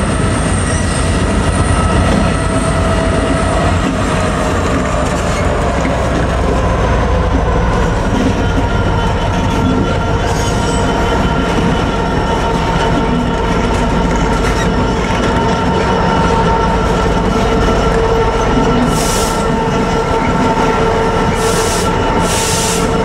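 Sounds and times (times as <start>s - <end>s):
diesel locomotive engines: 0.0s - 23.0s
wheels rumbling on rail: 0.0s - 23.0s.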